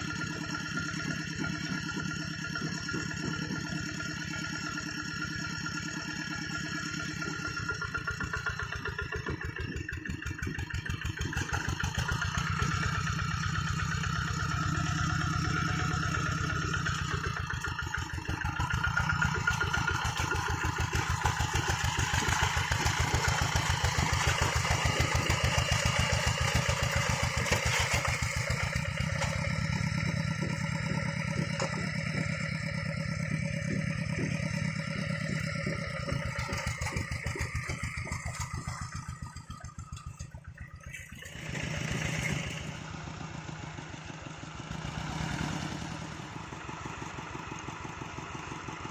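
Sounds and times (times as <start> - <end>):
diesel engine chugging: 0.0 - 48.9.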